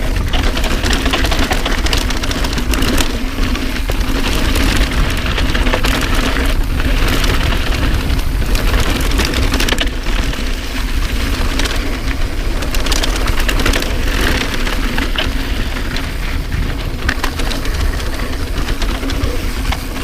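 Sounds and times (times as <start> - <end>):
bike rattling and clicking: 0.0 - 20.0
tyres crunching over dirt: 0.0 - 20.0
wind rumbling on microphone: 0.0 - 20.0.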